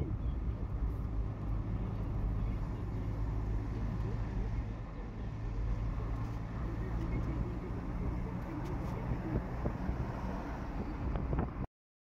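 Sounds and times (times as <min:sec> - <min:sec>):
car engine hum: 0:00.0 - 0:11.7
road rumble: 0:00.0 - 0:11.7.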